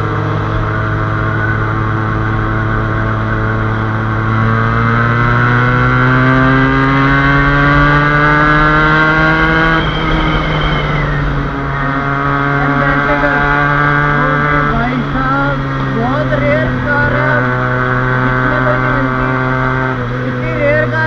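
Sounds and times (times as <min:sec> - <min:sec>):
motorcycle engine accelerating: 0:00.0 - 0:21.0
wind rumble on microphone: 0:00.0 - 0:21.0.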